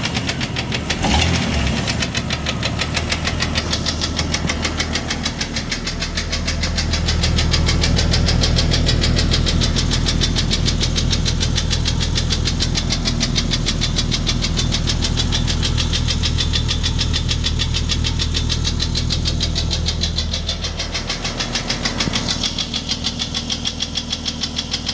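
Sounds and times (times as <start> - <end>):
engine running with tapping knock: 0.0 - 24.9.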